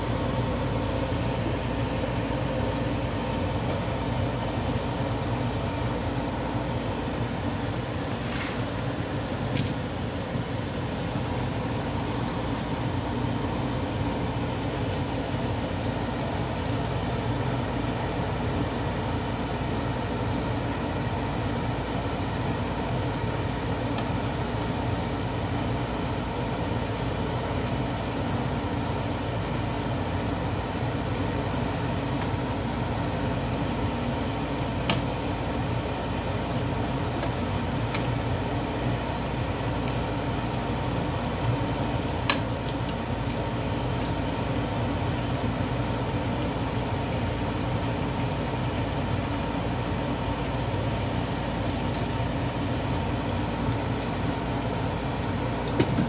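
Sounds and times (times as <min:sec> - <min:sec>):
plantain sizzling in oil: 0:00.0 - 0:56.0
steady low hum: 0:00.0 - 0:56.0.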